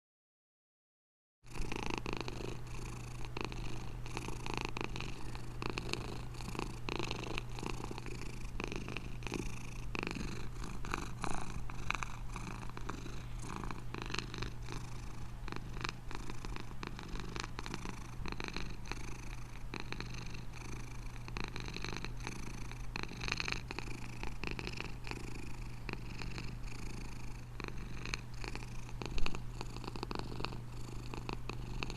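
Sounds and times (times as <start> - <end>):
cat purring: 1.5 - 31.9.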